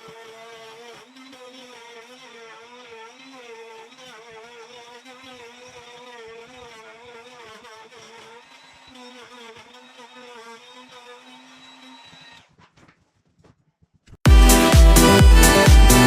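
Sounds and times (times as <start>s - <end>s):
electric power tool motor running: 0.0s - 12.5s, 14.3s - 16.0s.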